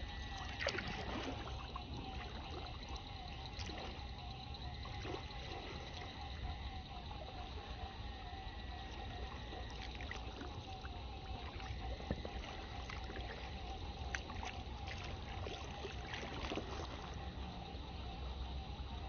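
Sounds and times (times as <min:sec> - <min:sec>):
small water splashes: 0:00.0 - 0:17.9
water dripping and lapping: 0:00.0 - 0:18.9.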